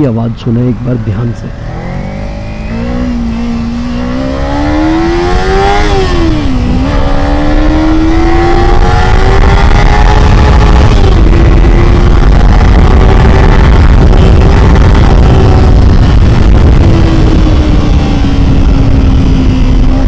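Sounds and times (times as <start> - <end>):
wind rush on microphone: 1.0 - 20.0
motorcycle engine accelerating: 1.5 - 20.0.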